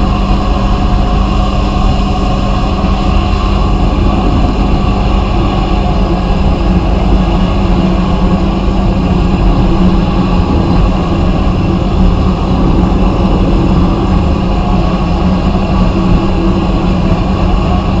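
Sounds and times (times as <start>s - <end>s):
abrasive blasting noise: 0.0s - 18.0s
machine hum: 0.0s - 18.0s.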